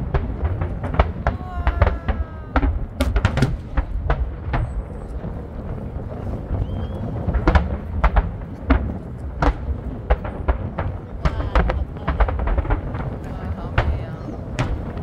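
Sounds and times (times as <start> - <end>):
fireworks bangs: 0.0 - 15.0
low rumble: 0.0 - 15.0.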